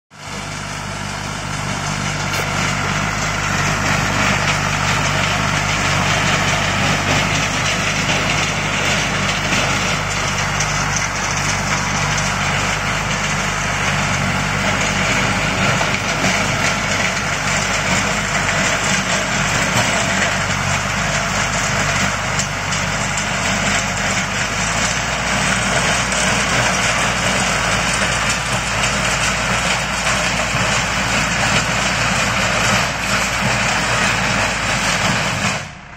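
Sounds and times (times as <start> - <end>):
rotary tiller churning soil: 0.1 - 35.9
tractor diesel engine under load: 0.1 - 35.9.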